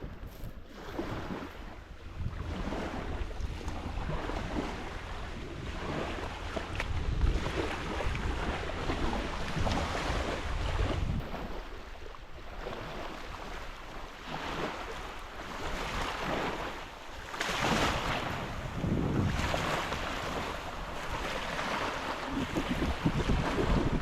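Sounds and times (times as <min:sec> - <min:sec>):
ocean waves washing ashore: 0:00.0 - 0:24.0
wind rumbling on microphone: 0:00.0 - 0:24.0.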